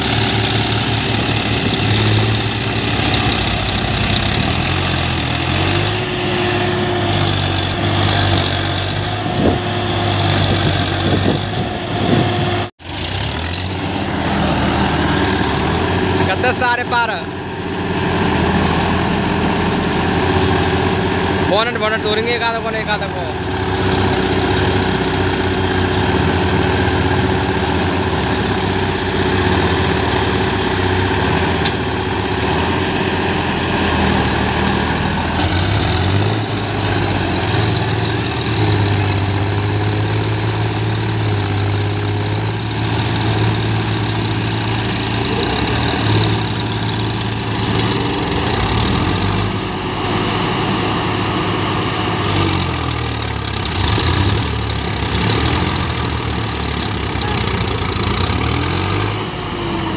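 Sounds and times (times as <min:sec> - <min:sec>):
diesel tractor engines under load: 0:00.0 - 0:59.9.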